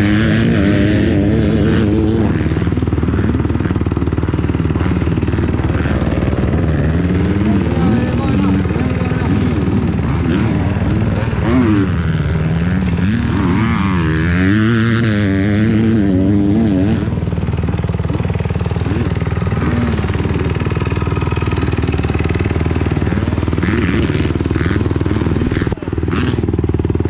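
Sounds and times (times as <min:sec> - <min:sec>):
motocross bike engine revving: 0:00.0 - 0:27.0.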